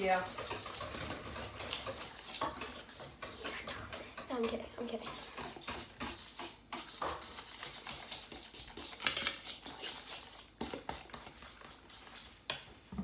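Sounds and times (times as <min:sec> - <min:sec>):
utensil stirring batter in bowl: 0:00.0 - 0:12.9.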